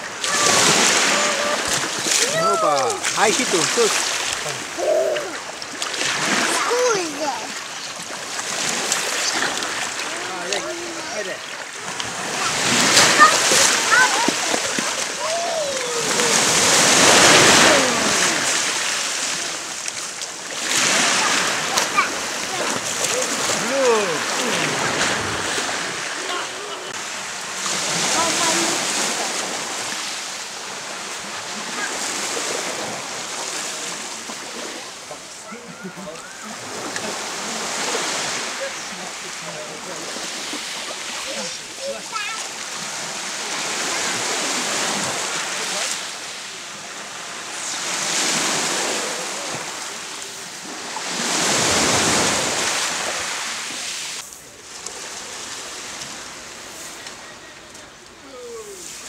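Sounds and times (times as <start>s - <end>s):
small waves washing on beach: 0.0s - 59.0s.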